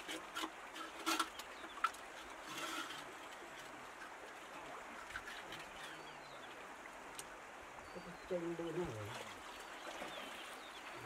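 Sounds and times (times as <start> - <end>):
muddy water sloshing: 0.0 - 11.0.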